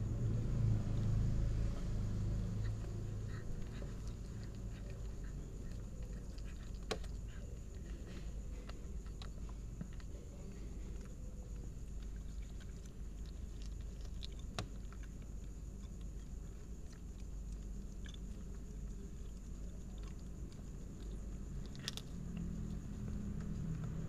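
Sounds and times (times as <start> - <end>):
kitten chewing: 2.0 - 24.0.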